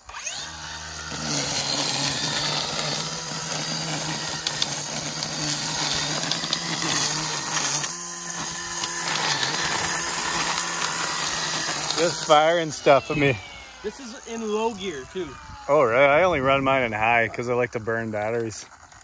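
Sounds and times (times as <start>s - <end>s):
string trimmer motor hum: 0.0s - 19.0s
trimmer line cutting grass: 0.0s - 19.0s.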